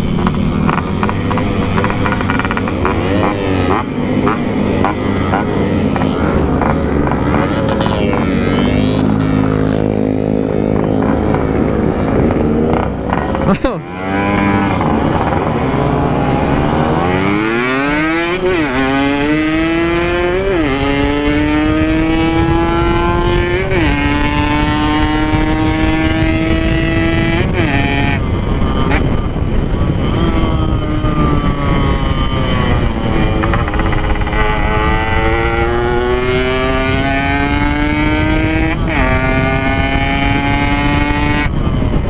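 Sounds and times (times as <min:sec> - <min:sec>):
two-stroke motorcycle engine revving: 0:00.0 - 0:42.0.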